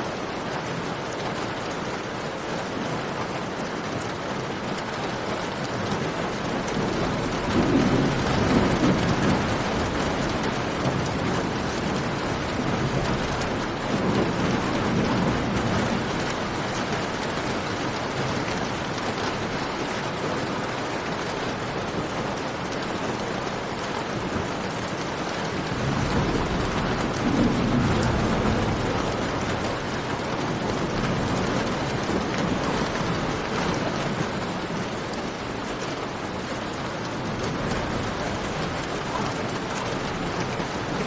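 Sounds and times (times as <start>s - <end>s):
steady rain hiss: 0.0s - 41.0s.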